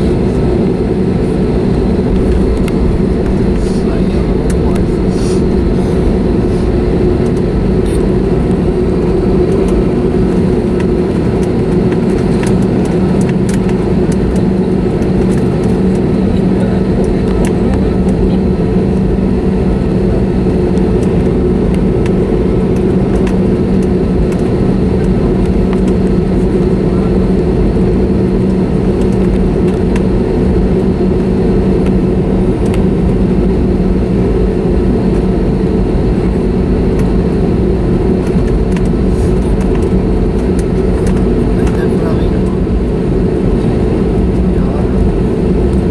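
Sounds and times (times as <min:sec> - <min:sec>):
airplane cabin hum: 0:00.0 - 0:45.9.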